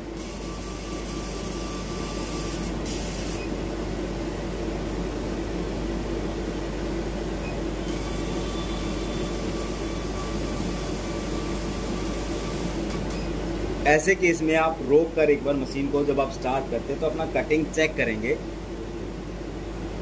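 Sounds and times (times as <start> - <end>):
laser cutter whirring and hissing: 0.0 - 18.6.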